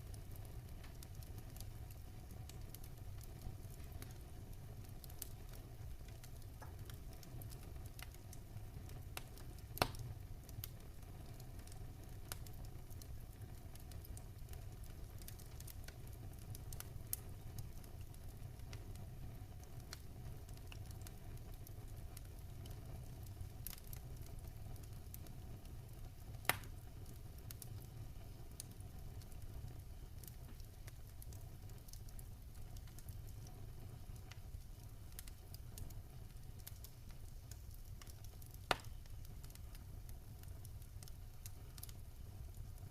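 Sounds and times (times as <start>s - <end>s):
fire crackling and popping: 0.0s - 42.9s
fire rumbling: 0.0s - 42.9s.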